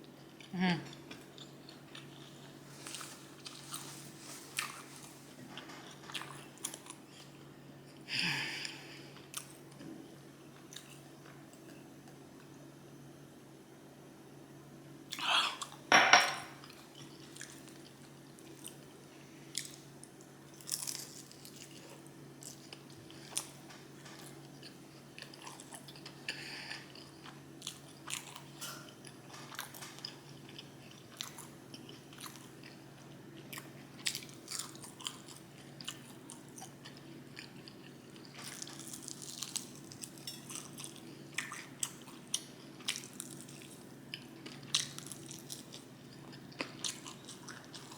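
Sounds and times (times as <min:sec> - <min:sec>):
person chewing with crunching: 0:00.0 - 0:09.9, 0:10.6 - 0:12.5, 0:16.6 - 0:47.9.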